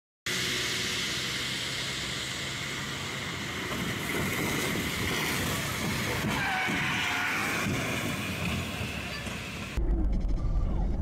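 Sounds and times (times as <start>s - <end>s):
truck engine: 0.3s - 11.0s.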